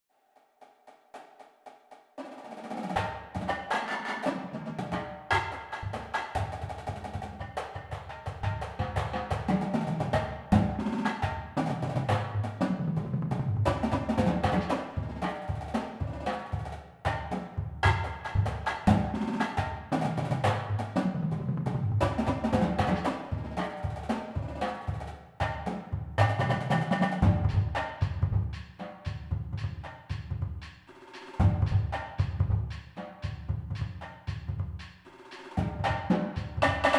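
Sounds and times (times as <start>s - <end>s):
snare and tenor drums: 1.2s - 36.9s
bass drums: 4.8s - 35.0s, 35.6s - 36.9s.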